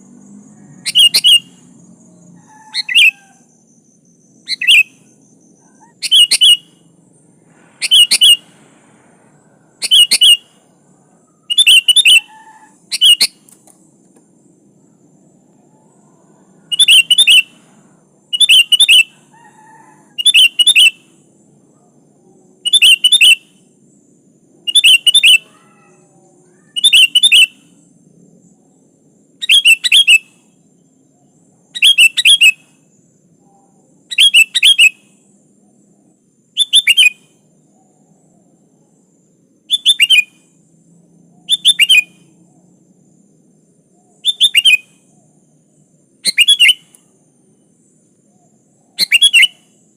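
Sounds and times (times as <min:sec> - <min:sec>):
faint low hum: 0:00.0 - 0:49.9.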